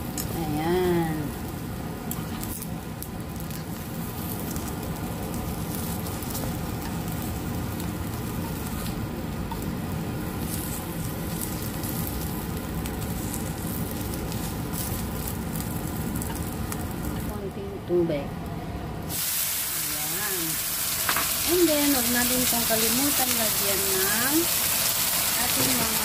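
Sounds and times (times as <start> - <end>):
food sizzling in oil: 0.0 - 17.3, 19.0 - 26.0.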